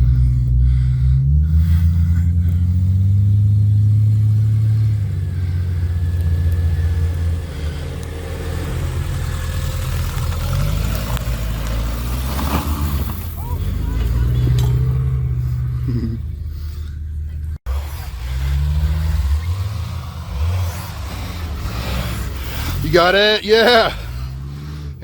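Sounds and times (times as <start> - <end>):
vehicle engine accelerating: 0.0 - 25.0.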